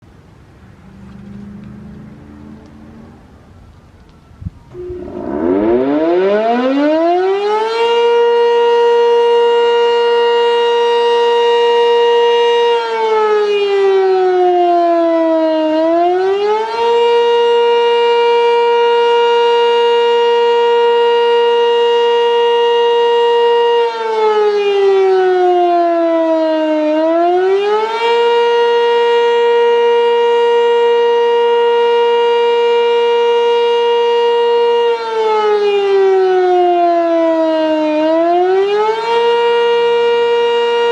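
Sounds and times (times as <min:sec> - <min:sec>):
warning siren wailing: 0:00.1 - 0:40.9.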